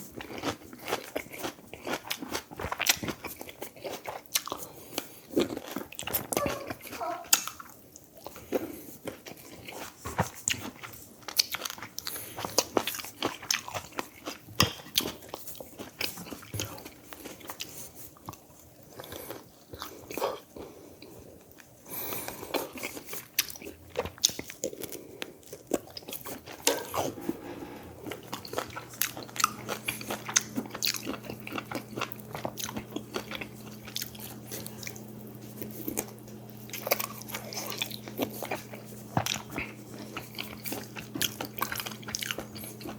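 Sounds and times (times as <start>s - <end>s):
chewing and crunching food: 0.0s - 42.9s.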